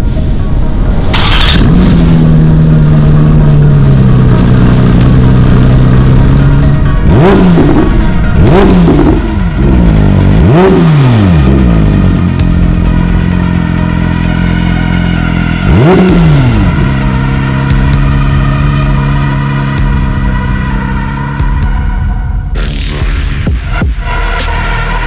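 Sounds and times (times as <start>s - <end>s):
car engine starting and idling: 0.1s - 25.0s
car engine revving: 1.0s - 25.0s.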